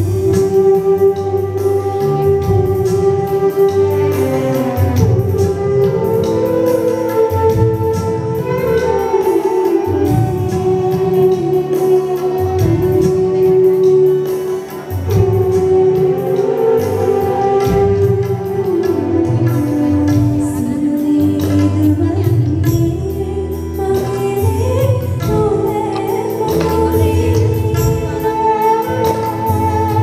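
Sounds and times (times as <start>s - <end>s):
live band playing instrumental: 0.0s - 30.0s.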